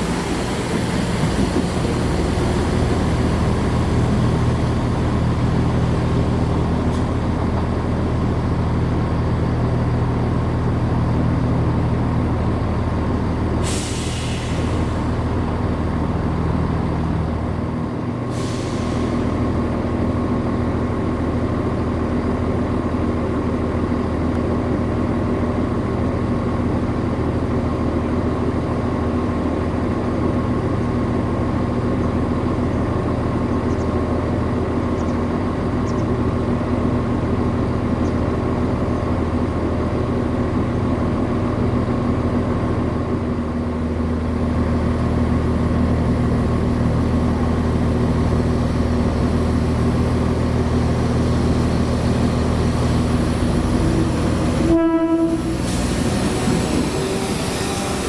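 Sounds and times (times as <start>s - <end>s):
diesel train engine humming: 0.0s - 58.0s.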